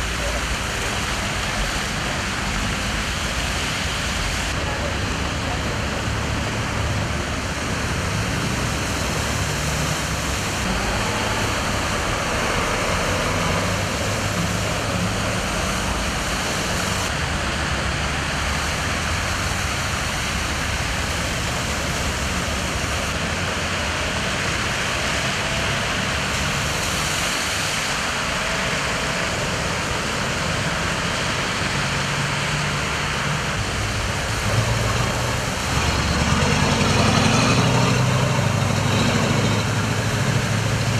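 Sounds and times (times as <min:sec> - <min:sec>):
car engines running: 0:00.0 - 0:40.9
car wheels splashing water: 0:00.0 - 0:40.9
rushing water: 0:00.0 - 0:40.9.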